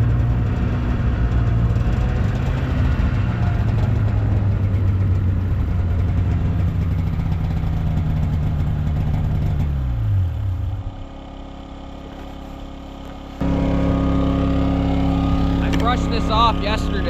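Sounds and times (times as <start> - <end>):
engine running and shutting off: 0.0 - 17.0.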